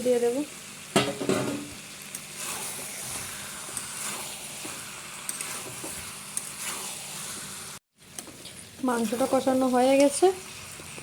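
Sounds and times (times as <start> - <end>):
curry sizzling in oil: 0.0 - 11.0.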